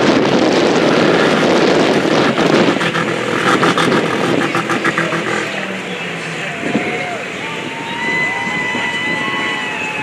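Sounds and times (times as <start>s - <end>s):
car engines running loud: 0.0s - 10.0s.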